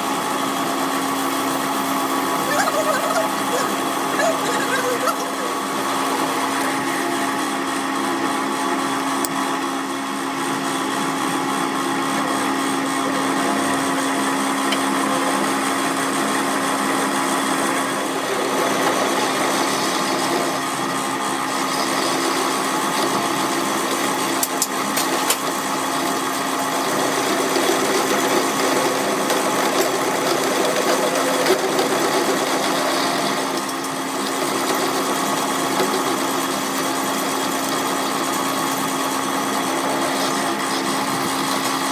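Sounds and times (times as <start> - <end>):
workshop machine humming: 0.0 - 41.9.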